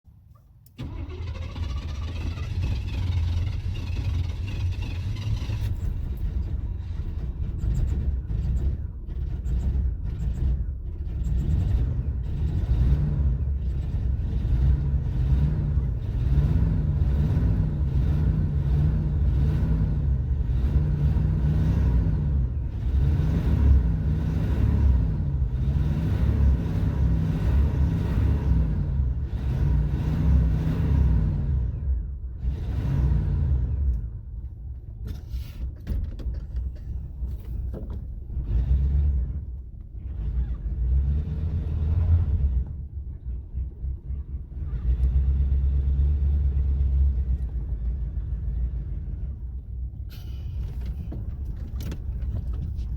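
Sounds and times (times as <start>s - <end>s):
car engine sputtering and revving: 0.8s - 52.9s.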